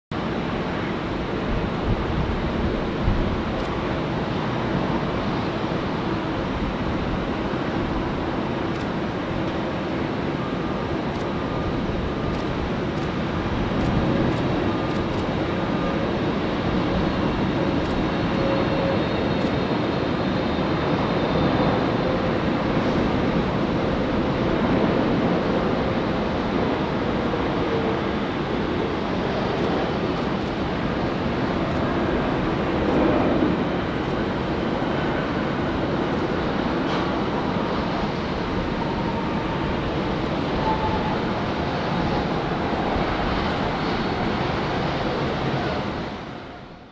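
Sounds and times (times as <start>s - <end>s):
jet airliner engine roar: 0.1s - 46.9s.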